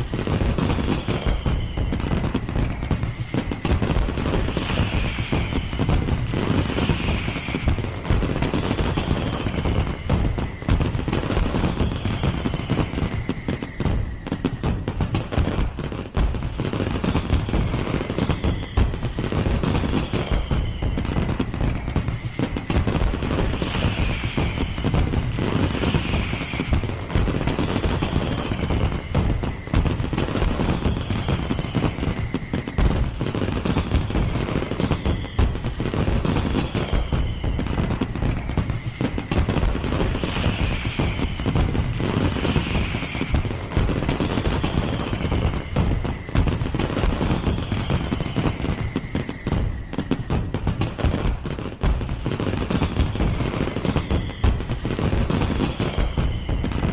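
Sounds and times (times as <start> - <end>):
falling firework whistles: 0.0 - 56.9
firework bangs and crackles: 0.0 - 56.9.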